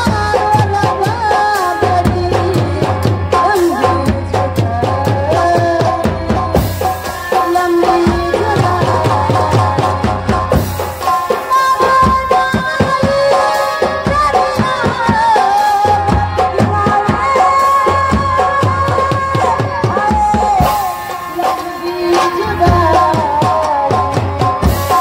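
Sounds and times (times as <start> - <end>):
held bending melody line: 0.0 - 25.0.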